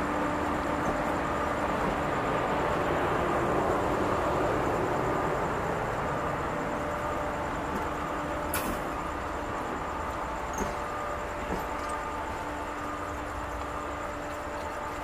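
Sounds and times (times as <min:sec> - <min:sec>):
faint steady tones: 0:00.0 - 0:15.0
train wheels rumbling on rails: 0:00.0 - 0:15.0.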